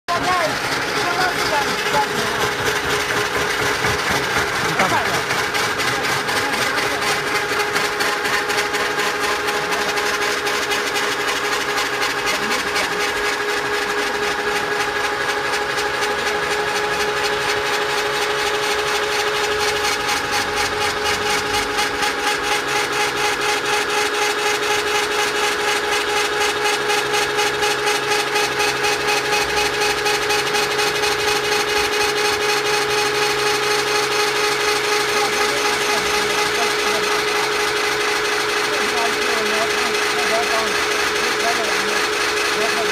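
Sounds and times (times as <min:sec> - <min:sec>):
auger drill motor whining: 0:00.1 - 0:42.9.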